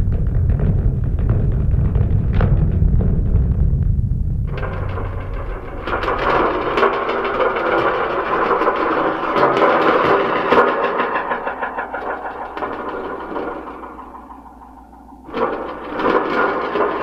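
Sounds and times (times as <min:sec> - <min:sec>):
rattling engine-like noise: 0:00.0 - 0:17.0.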